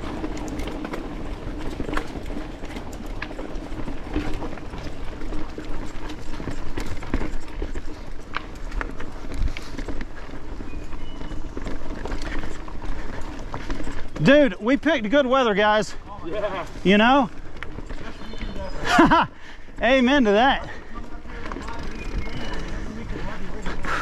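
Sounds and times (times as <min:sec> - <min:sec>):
bike chain clicking and clacking: 0:00.0 - 0:24.0
bike tyres rolling over dirt: 0:00.0 - 0:24.0.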